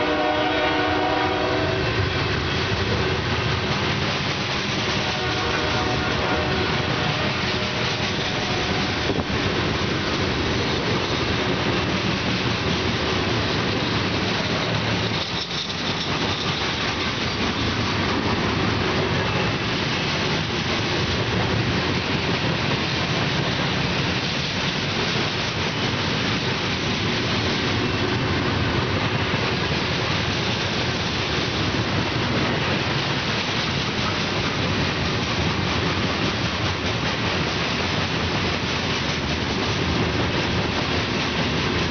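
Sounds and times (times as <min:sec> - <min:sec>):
steel wheels on rail: 0:00.0 - 0:41.9.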